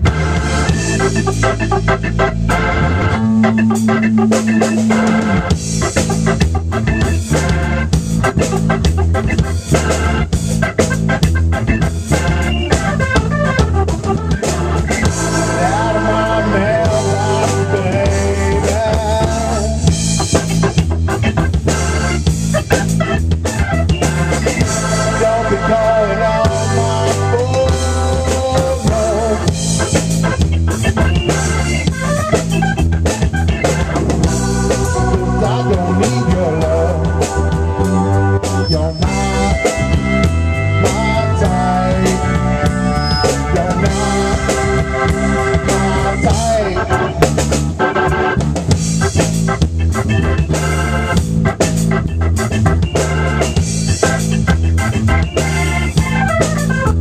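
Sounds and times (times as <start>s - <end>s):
drum kit steady beat: 0.0s - 57.0s
electric bass: 0.0s - 57.0s
organ holding chords: 0.0s - 57.0s.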